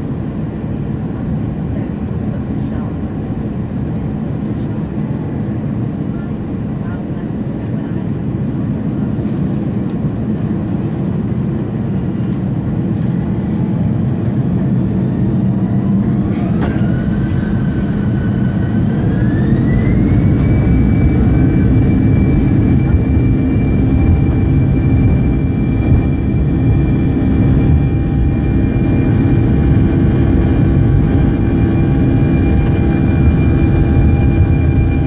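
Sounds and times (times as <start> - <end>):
jet engine whine rising: 0.0 - 35.0
jet engines rumbling in cabin: 0.0 - 35.0.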